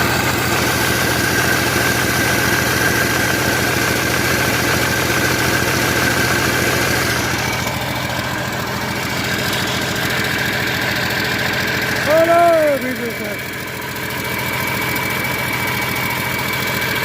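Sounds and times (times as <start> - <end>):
excavator diesel engine idling: 0.0 - 17.0.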